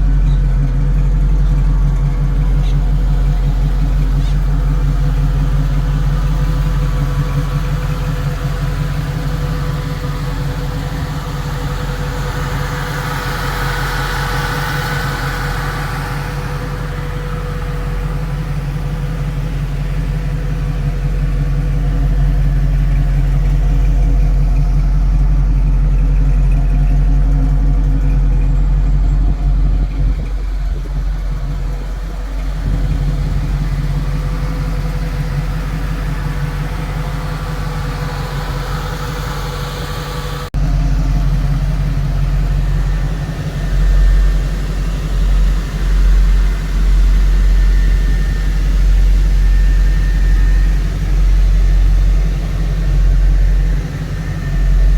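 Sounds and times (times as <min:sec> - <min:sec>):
car engine running: 0:00.0 - 0:54.9
road noise: 0:00.0 - 0:54.9.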